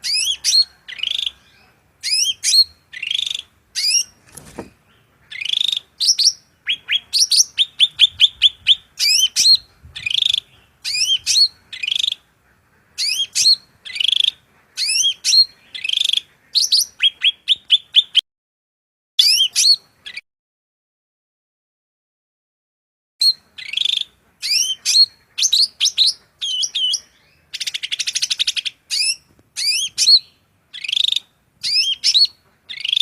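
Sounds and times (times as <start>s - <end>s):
songbird singing: 0.0s - 12.3s, 13.0s - 18.2s, 19.2s - 20.2s, 23.2s - 33.0s.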